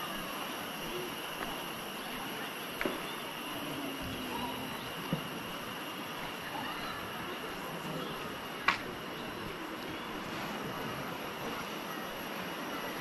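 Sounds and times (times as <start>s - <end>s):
constant hiss: 0.0s - 13.0s
high insect drone: 0.0s - 13.0s.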